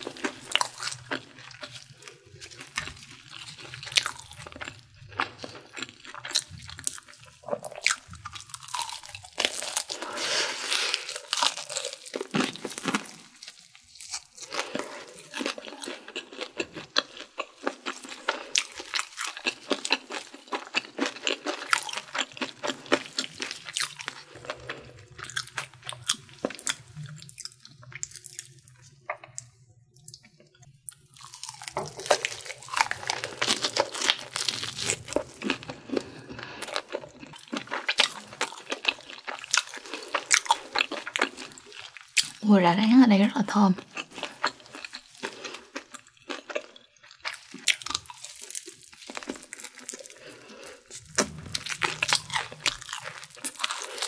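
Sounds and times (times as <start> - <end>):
crunching fried chicken: 0.0 - 42.4, 43.8 - 54.0.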